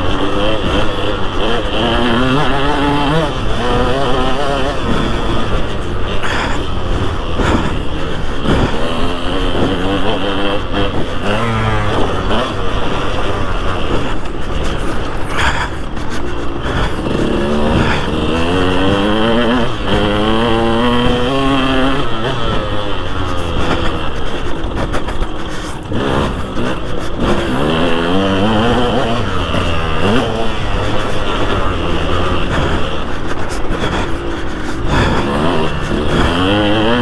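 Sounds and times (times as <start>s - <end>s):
motocross engine revving: 0.0s - 37.0s.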